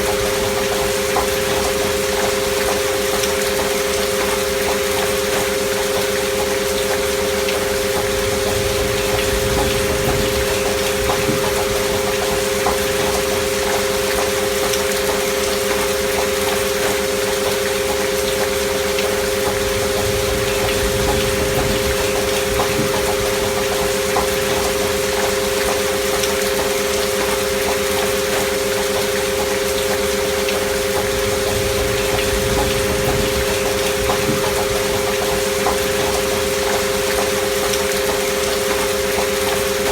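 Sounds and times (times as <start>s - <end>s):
steady pure tone drone: 0.0s - 14.7s, 16.7s - 26.3s, 28.5s - 39.9s
gentle rain pattering: 0.0s - 39.9s.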